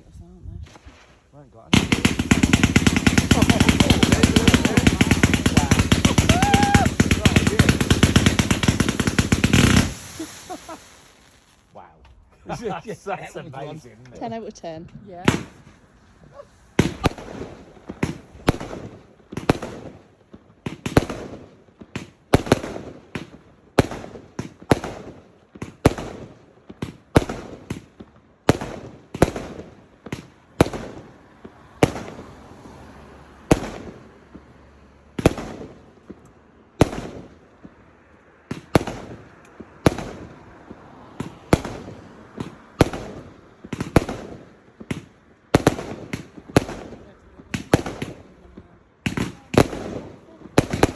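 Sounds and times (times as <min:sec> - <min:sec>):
fireworks banging: 0:00.6 - 0:50.9.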